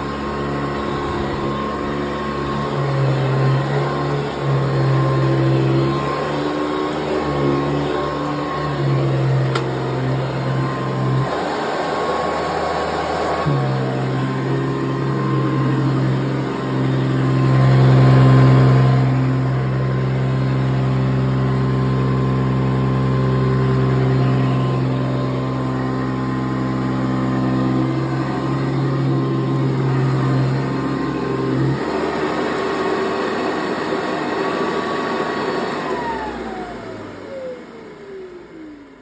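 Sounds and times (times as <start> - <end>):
upright vacuum cleaner running: 0.0 - 39.0.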